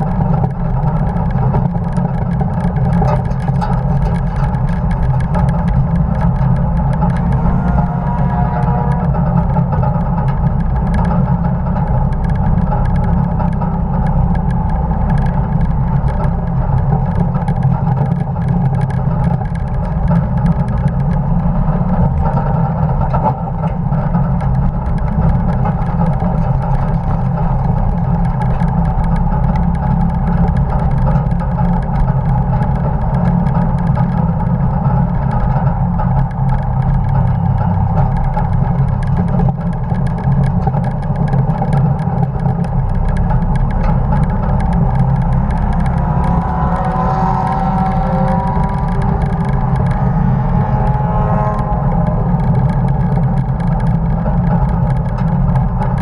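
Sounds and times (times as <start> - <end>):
truck engine running under load: 0.0 - 56.0.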